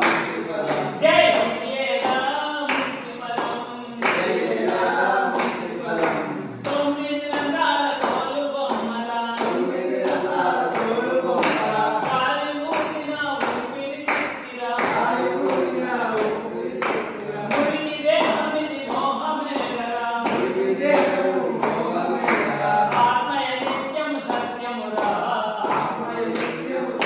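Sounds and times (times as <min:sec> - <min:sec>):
group of men singing: 0:00.0 - 0:27.0
hands clapping a steady beat: 0:00.0 - 0:27.0.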